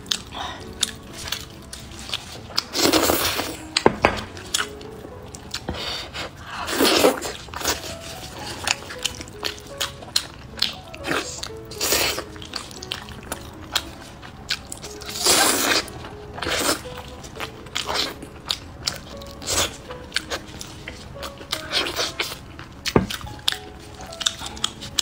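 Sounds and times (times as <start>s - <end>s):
biting and chewing: 0.0s - 25.0s
soft background music: 0.0s - 25.0s.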